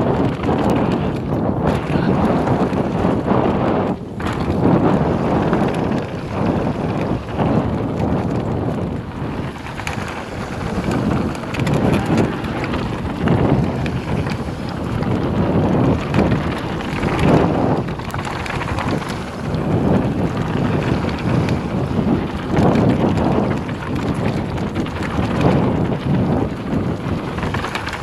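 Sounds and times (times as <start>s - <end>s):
bike rattles and knocks: 0.0s - 28.0s
tyres rumbling over dirt trail: 0.0s - 28.0s
wind buffeting microphone: 0.0s - 28.0s.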